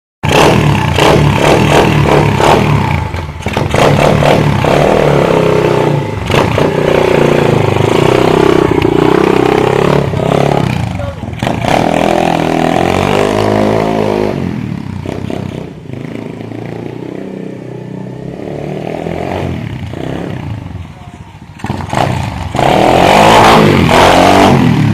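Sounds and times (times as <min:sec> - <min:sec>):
pit bike engine revving: 0:00.2 - 0:20.8, 0:21.5 - 0:24.9.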